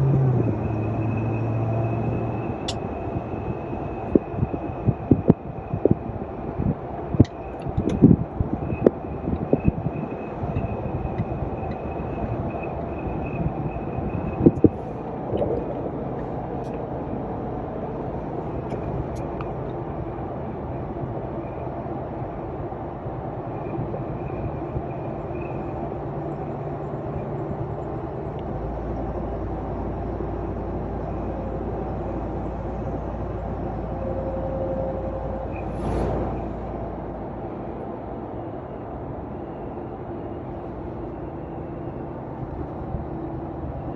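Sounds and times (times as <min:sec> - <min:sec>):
high wind whistle: 0:00.0 - 0:28.7, 0:29.3 - 0:43.1
engine and road noise: 0:00.0 - 0:43.9.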